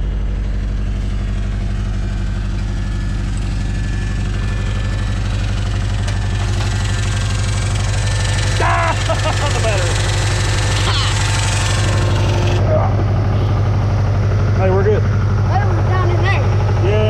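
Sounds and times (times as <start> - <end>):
engine idling with rod knock: 0.0 - 17.0.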